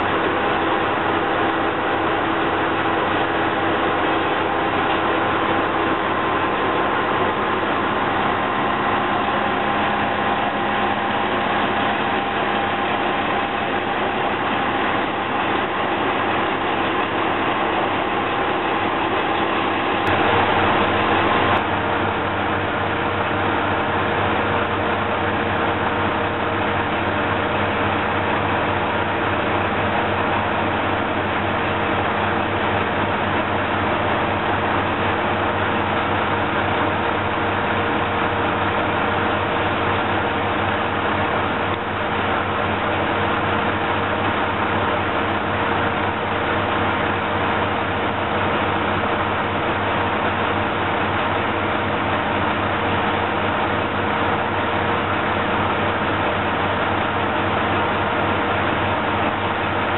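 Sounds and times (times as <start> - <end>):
diesel railcar engine idling: 0.0 - 59.9.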